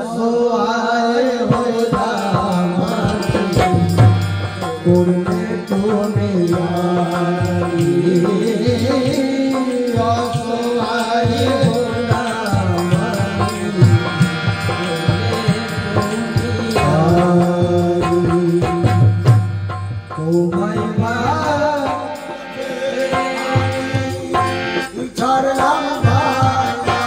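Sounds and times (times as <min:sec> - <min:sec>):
male voices singing: 0:00.0 - 0:19.2, 0:20.1 - 0:27.0
dholak drum beat: 0:01.2 - 0:27.0.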